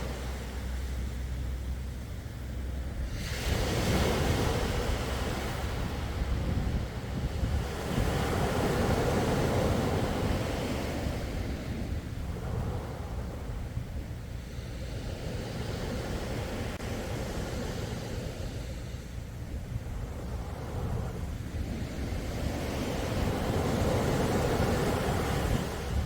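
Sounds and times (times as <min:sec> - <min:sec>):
sea waves washing ashore: 0:00.0 - 0:26.0
wind rumble on microphone: 0:00.0 - 0:26.0.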